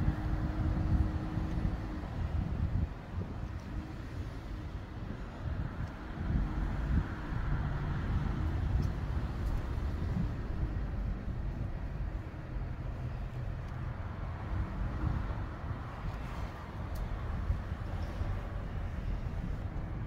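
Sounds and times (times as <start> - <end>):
faint engine hum: 0.0 - 20.0
road traffic rumble: 0.0 - 20.0.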